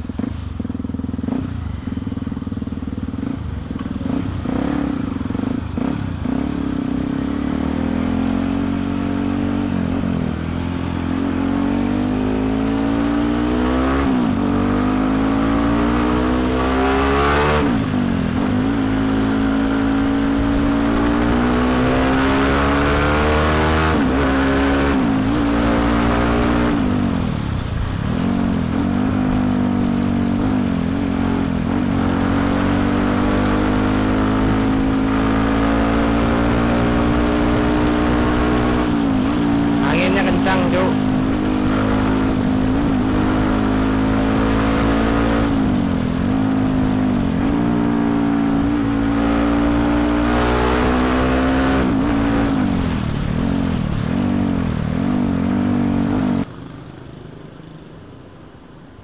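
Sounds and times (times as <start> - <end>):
motorcycle engine revving through gears: 0.0 - 56.6.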